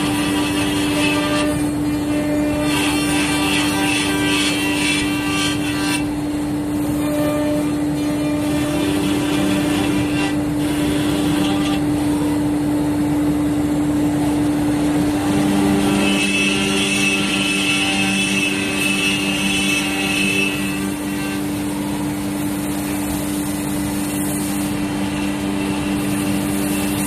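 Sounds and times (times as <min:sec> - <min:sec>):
high machine whine: 0:00.0 - 0:27.0
router spindle hum: 0:00.0 - 0:27.0.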